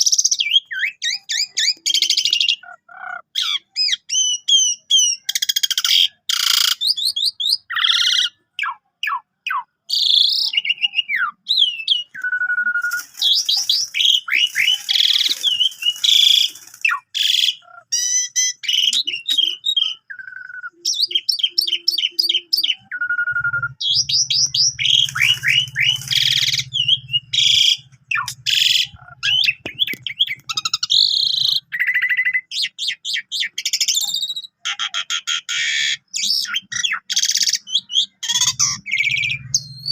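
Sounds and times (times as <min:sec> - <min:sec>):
starling singing whistles: 0:00.0 - 0:02.6, 0:03.4 - 0:39.9.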